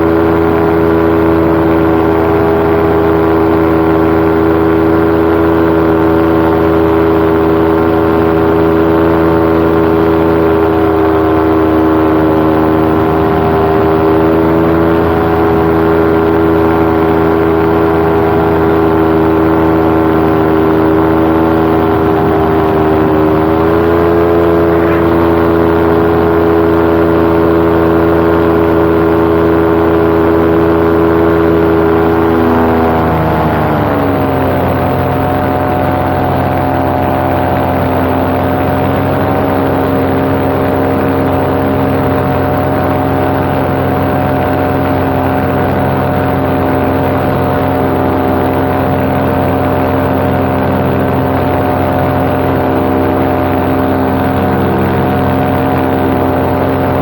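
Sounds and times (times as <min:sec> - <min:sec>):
paramotor engine droning: 0:00.0 - 0:57.0.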